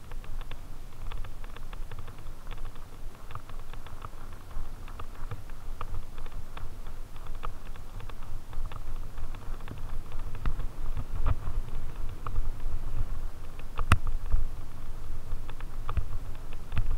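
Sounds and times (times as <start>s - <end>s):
bike tyres rolling over dry leaves: 0.0s - 16.9s.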